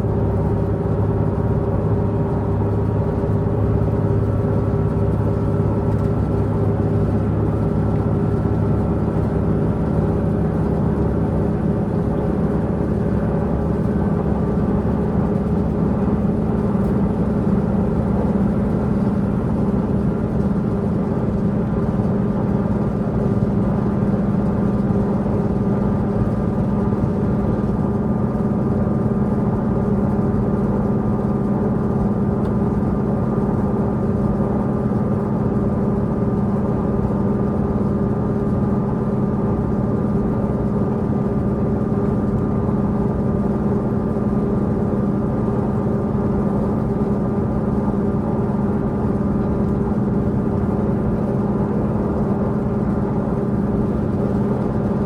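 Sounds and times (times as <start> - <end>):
diesel engine humming: 0.0 - 55.0
train rumbling on rails: 0.0 - 55.0.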